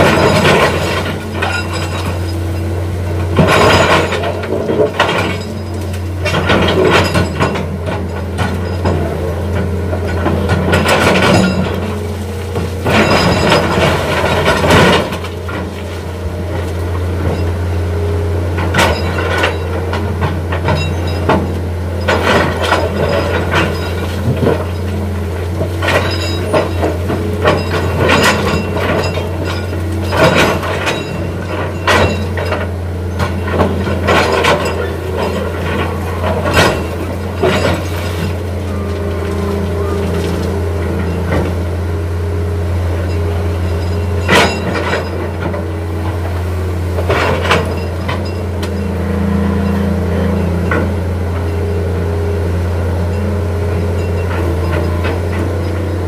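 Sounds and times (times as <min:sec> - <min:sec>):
diesel machinery running: 0:00.0 - 0:56.0.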